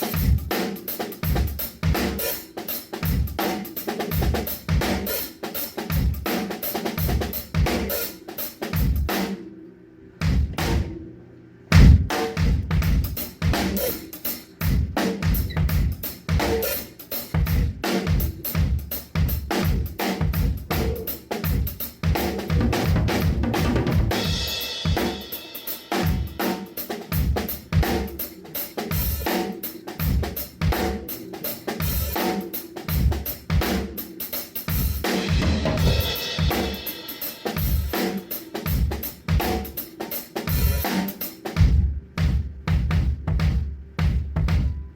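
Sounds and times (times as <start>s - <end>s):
drum kit groove: 0.0s - 44.9s.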